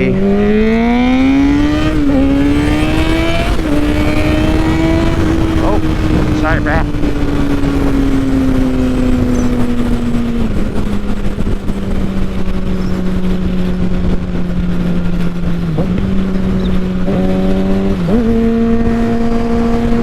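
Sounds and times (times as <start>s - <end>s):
motorcycle engine running: 0.0s - 20.0s
wind rush: 0.2s - 20.0s.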